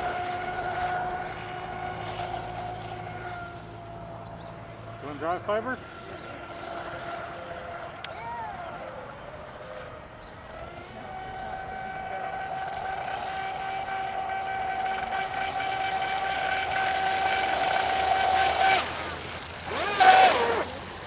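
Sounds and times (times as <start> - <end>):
electric motor whining: 0.0 - 8.2, 9.2 - 21.0.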